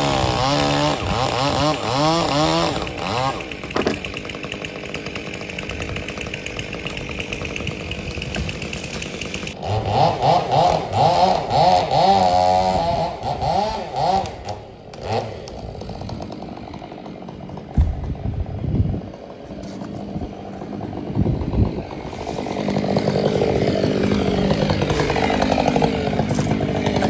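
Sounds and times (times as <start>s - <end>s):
chainsaw running and revving: 0.0s - 27.0s.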